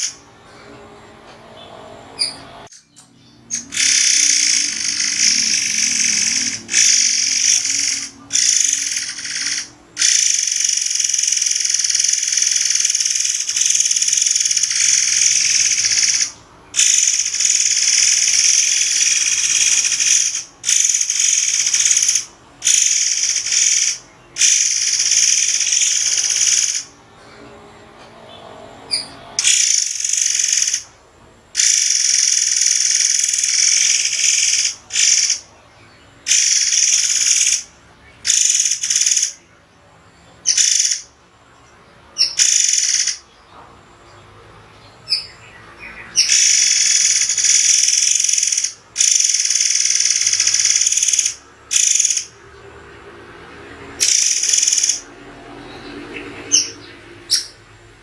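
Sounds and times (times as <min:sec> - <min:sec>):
songbird singing high-pitched phrases: 0:01.6 - 0:27.0, 0:28.2 - 0:31.0, 0:31.6 - 0:43.4, 0:44.1 - 0:57.6.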